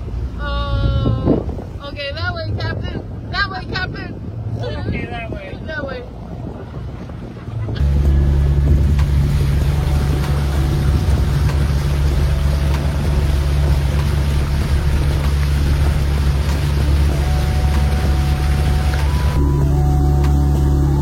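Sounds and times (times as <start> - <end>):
boat engine droning: 0.0 - 21.0
water noise: 0.0 - 21.0
wind noise: 0.0 - 21.0.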